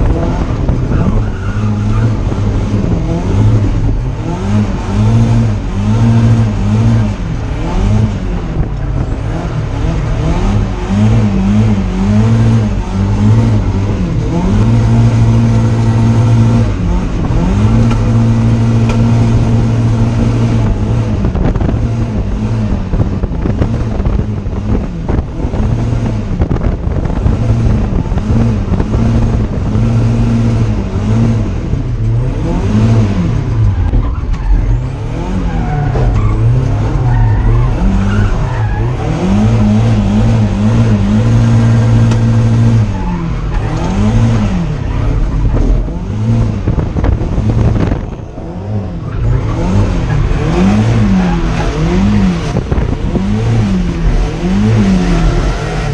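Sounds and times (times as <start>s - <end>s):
car engine revving high: 0.0s - 55.9s
tyres skidding: 0.0s - 55.9s.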